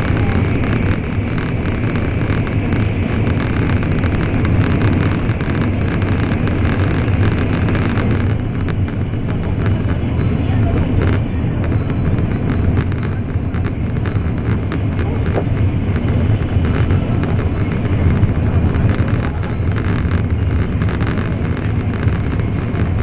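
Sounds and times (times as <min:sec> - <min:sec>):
train cabin rumble: 0:00.0 - 0:23.0.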